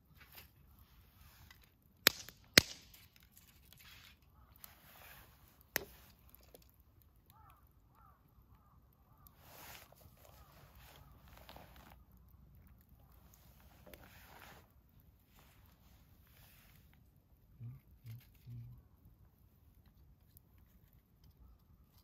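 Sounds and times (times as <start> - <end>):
campfire wood popping: 0.0 - 22.0
faint fire crackle: 0.0 - 22.0.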